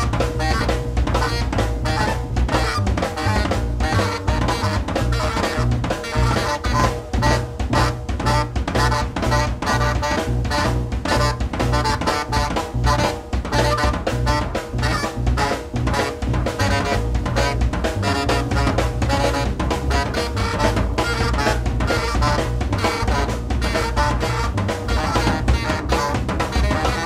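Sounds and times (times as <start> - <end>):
double bass: 0.0 - 27.0
drum kit: 0.0 - 27.0
saxophone: 0.0 - 27.0.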